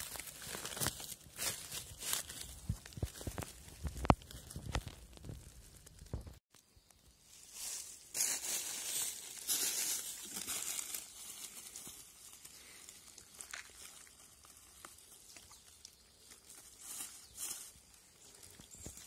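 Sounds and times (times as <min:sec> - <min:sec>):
hands crinkling leaf litter: 0:00.0 - 0:06.0, 0:07.2 - 0:19.0
footsteps crunching dry leaves: 0:00.0 - 0:06.3, 0:07.2 - 0:15.6, 0:16.2 - 0:19.0.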